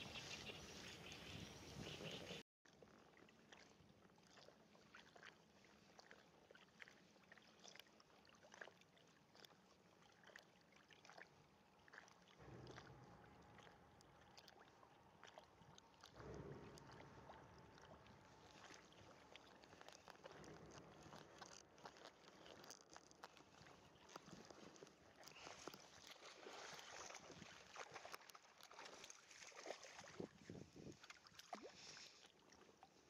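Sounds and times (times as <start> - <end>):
low water swells: 0.0 - 2.4, 3.0 - 33.0
small waves lapping: 0.0 - 33.0.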